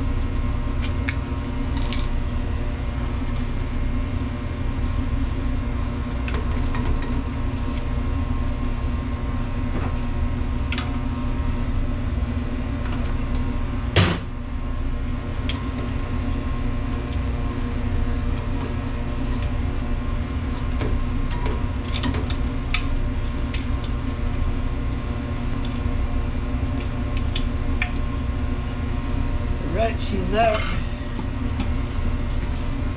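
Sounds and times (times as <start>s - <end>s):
low machinery hum: 0.0s - 32.9s.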